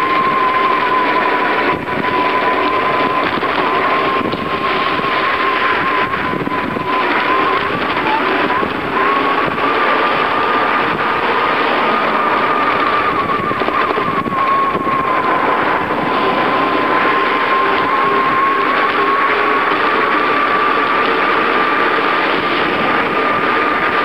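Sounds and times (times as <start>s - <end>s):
bicycle road noise: 0.0s - 24.0s
thin whine: 0.0s - 24.0s
wind rush on microphone: 0.0s - 24.0s.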